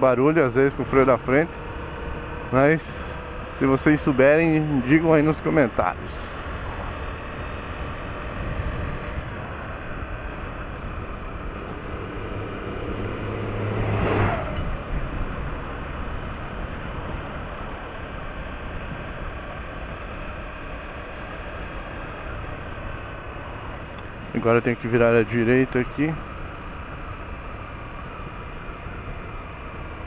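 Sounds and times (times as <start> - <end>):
motorcycle engine running: 0.0 - 30.0
road and wind noise: 0.0 - 30.0
whoosh with low hum: 0.0 - 30.0.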